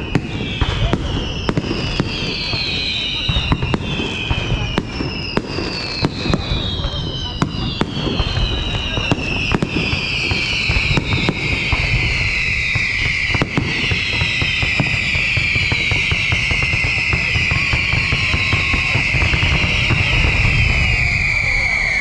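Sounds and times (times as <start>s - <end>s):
fireworks bangs and crackles: 0.0s - 22.0s
fireworks whistling: 0.0s - 22.0s.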